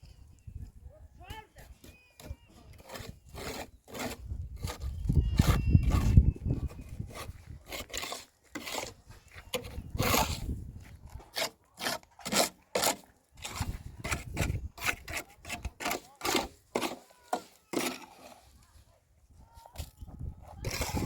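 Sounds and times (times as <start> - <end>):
rough scraping strokes: 1.6 - 18.9, 20.5 - 21.0.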